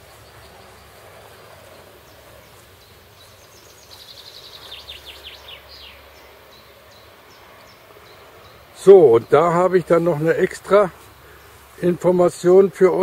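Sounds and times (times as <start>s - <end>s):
songbird trilling: 0.0s - 12.1s.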